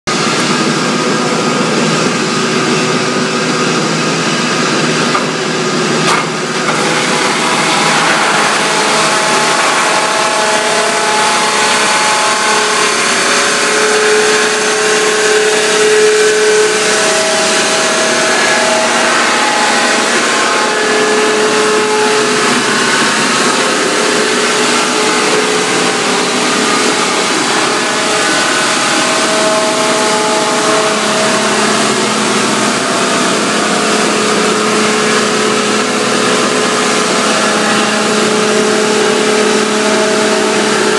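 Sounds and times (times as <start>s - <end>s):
machine grinding wood log: 0.1s - 40.9s.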